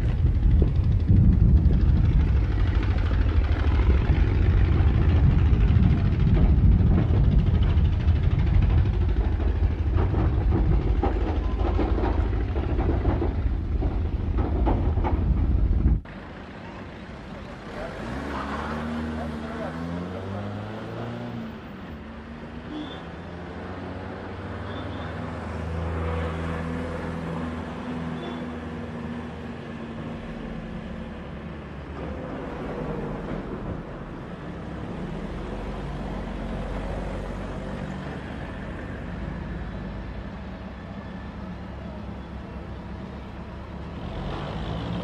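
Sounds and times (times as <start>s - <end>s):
road noise: 0.0s - 45.0s
vehicle engines passing: 0.0s - 45.0s.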